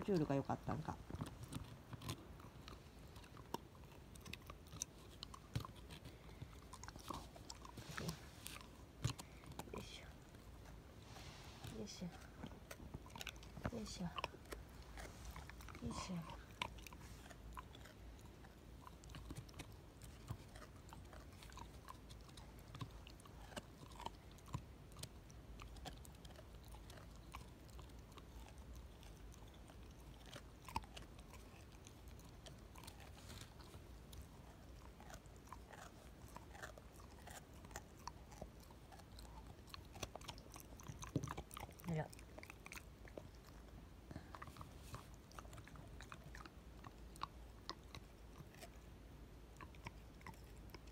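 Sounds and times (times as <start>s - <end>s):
dog chewing: 0.0s - 50.9s.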